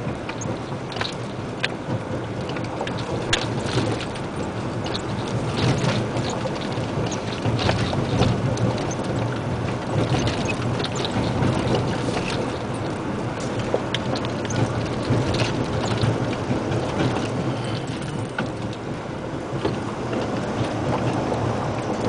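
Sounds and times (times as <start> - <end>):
diesel truck engine humming: 0.0 - 22.0
small clicks and rattles: 0.0 - 22.0.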